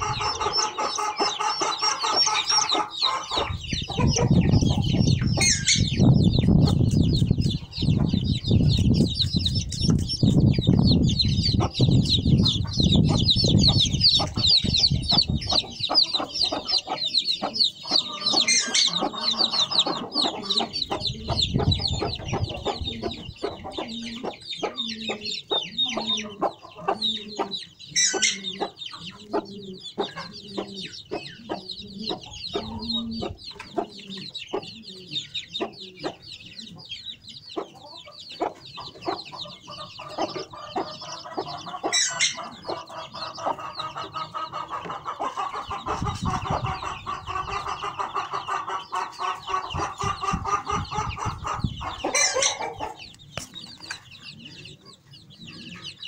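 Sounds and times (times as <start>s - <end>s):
chicks peeping: 0.0s - 56.0s
hen clucking: 0.0s - 56.0s.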